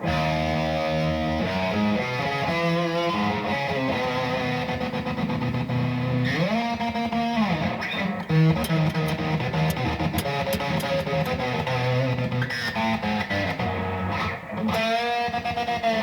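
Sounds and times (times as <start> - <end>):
electric guitar through amplifier: 0.0 - 16.0.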